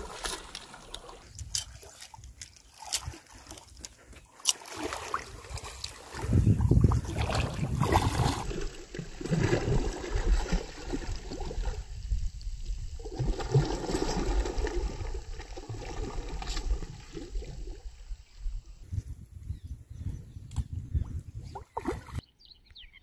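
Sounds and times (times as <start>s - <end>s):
water splashing and gurgling: 0.0s - 18.8s, 20.5s - 22.2s.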